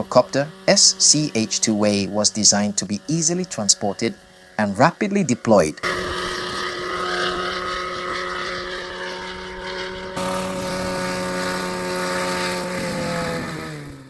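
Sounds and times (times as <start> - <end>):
helicopter engine and rotor droning: 0.0 - 14.0.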